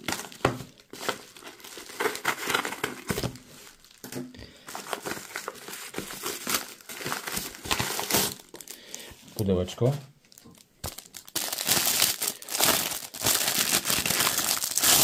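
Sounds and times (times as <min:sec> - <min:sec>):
packaging torn and crinkled: 0:00.0 - 0:04.1, 0:04.8 - 0:09.0, 0:10.3 - 0:15.0.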